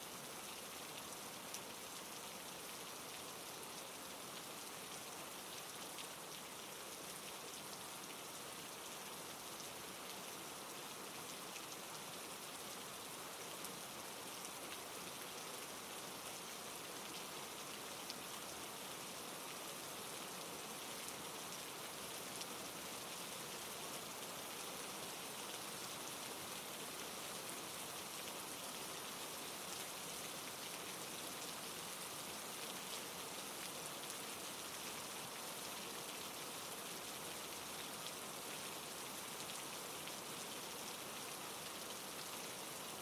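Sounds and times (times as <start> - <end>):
rain falling on a surface: 0.0 - 43.0.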